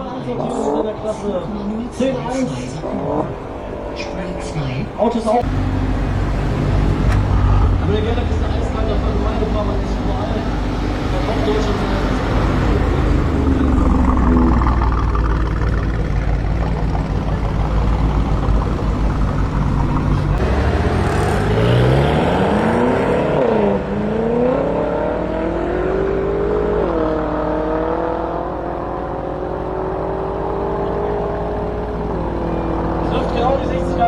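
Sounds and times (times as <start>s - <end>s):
car engine accelerating hard: 0.6s - 34.0s.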